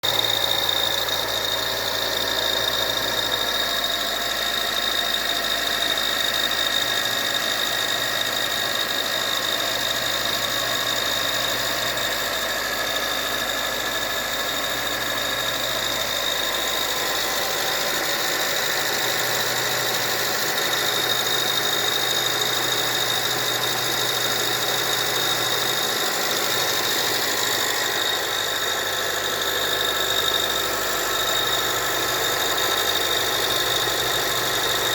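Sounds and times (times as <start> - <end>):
car engine idling: 0.0 - 34.9
high squealing noise: 0.0 - 34.9.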